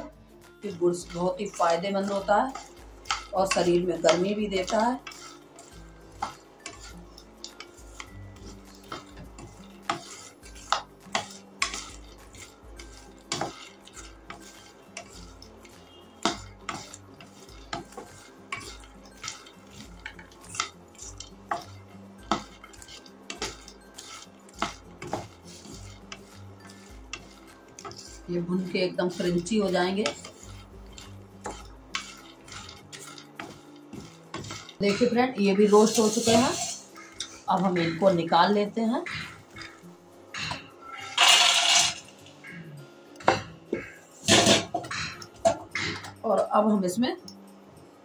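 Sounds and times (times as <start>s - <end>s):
spatula scraping pan: 0.0s - 46.5s.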